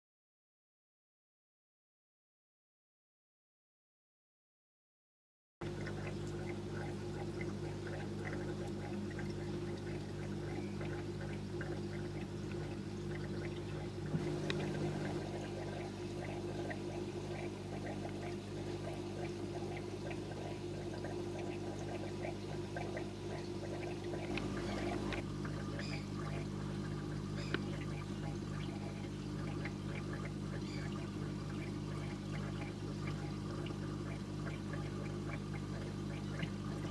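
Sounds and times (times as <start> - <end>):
low mechanical hum: 5.6 - 36.9
water trickling: 5.6 - 36.9.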